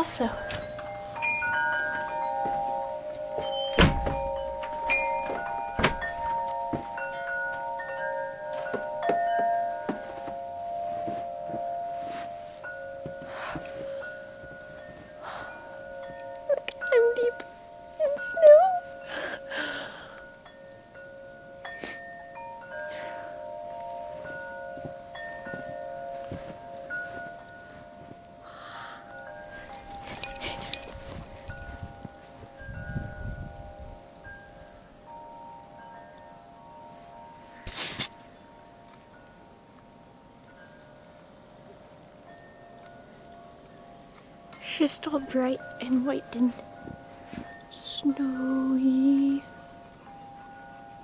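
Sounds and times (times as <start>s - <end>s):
wind chimes ringing: 0.0s - 51.0s.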